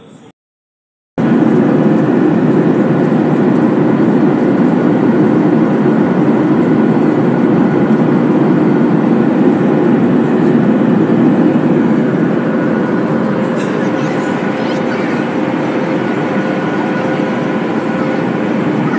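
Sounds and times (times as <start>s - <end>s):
airliner cabin rumble: 1.2s - 18.9s.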